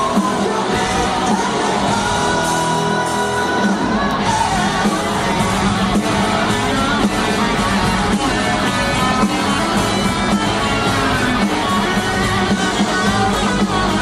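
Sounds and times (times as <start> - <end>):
drums: 0.0 - 14.0
electric guitar: 0.0 - 14.0
person singing: 0.0 - 14.0.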